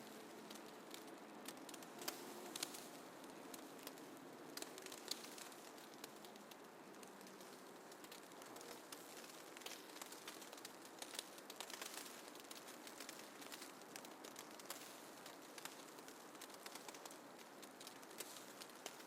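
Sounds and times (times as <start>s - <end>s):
light ticks and crackles: 0.0s - 19.0s
soft steady hiss: 0.0s - 19.0s.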